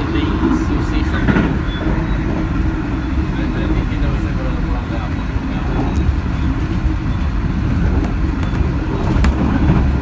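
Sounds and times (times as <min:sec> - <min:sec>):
train carriage rumbling on rails: 0:00.0 - 0:10.0.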